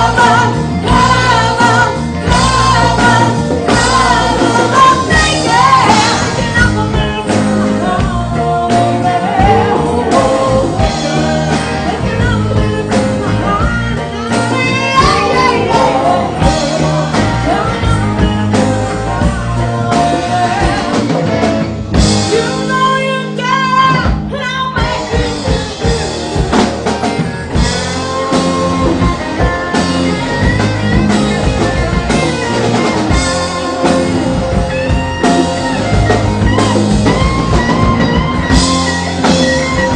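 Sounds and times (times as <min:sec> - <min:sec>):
woman singing: 0:00.0 - 0:21.4, 0:22.2 - 0:26.3, 0:27.6 - 0:35.5
blues rock band playing: 0:00.0 - 0:39.9.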